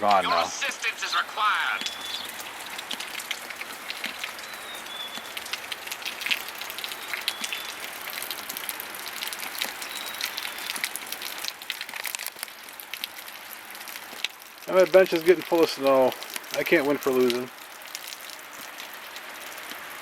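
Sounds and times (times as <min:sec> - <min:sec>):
wet snow and rain pattering: 0:00.0 - 0:20.0.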